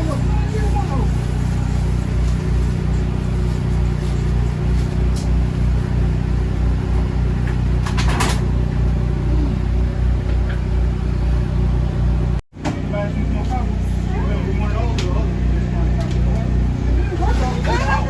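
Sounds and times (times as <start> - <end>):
low engine drone: 0.0 - 18.0.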